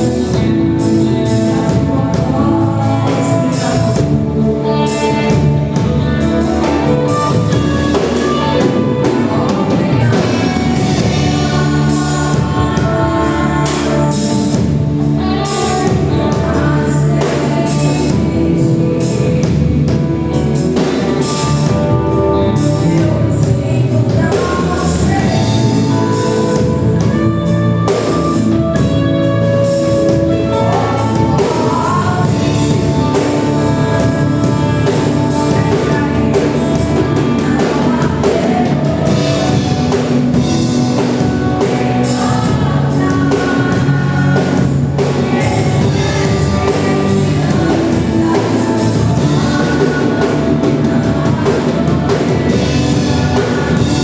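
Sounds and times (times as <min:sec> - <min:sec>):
live church band: 0:00.0 - 0:54.0
people singing: 0:00.0 - 0:54.0.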